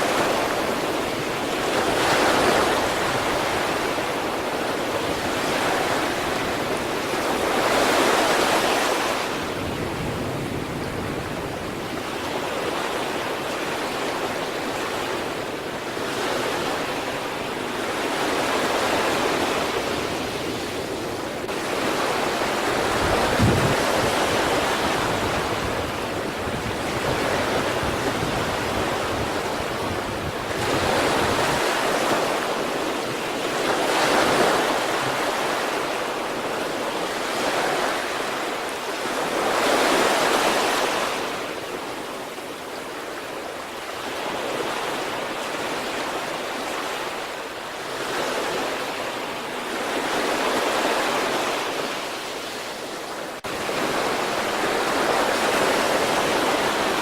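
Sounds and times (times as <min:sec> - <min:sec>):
wind rumble on microphone: 0:00.0 - 0:46.8
sea waves breaking: 0:00.0 - 0:57.0.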